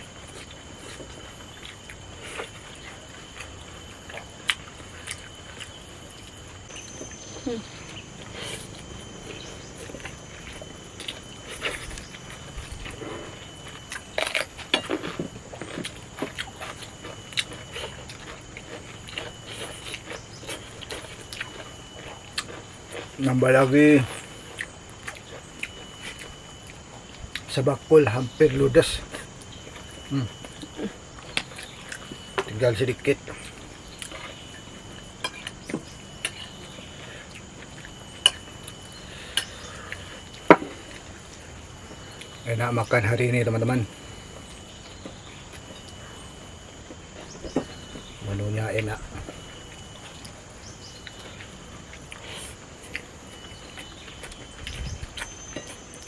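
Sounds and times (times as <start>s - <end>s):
food crunches and clicks: 0.0s - 56.0s
chewing and mouth smacking: 0.2s - 27.6s, 29.0s - 42.4s, 49.0s - 56.0s.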